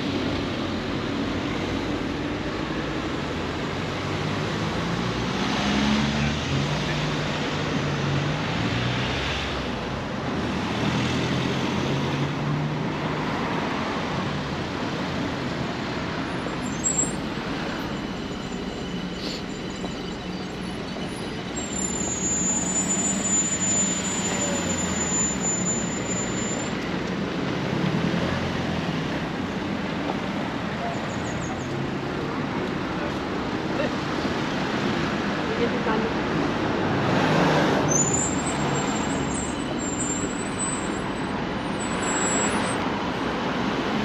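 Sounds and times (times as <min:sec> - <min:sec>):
cars and vans driving past: 0:00.0 - 0:44.0.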